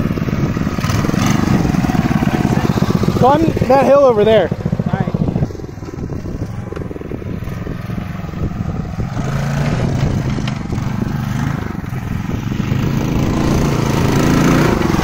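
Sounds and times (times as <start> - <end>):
mini bike engine running: 0.0 - 15.0.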